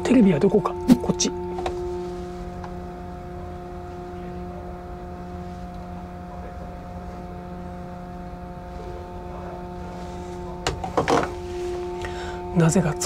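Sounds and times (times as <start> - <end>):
ferry engine rumble: 0.0 - 13.0
machinery hum tones: 0.0 - 13.0.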